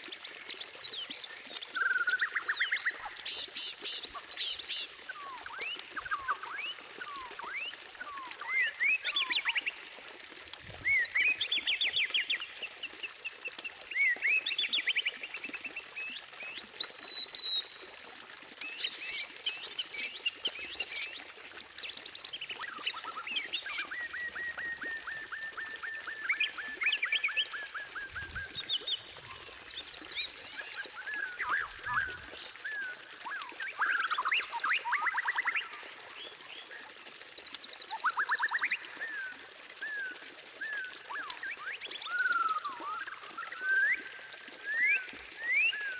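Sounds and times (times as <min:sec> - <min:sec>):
songbird whistles and trills: 0:00.4 - 0:09.9, 0:10.6 - 0:17.9, 0:22.5 - 0:45.9.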